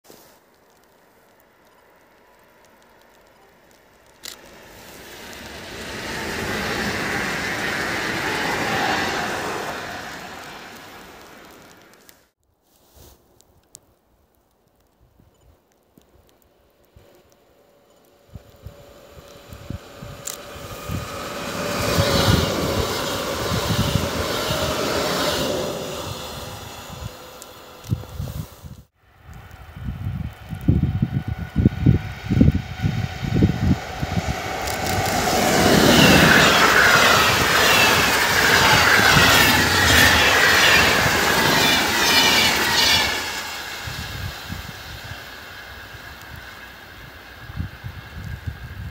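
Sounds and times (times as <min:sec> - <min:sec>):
train passing at speed: 0:04.1 - 0:12.1, 0:17.7 - 0:48.9.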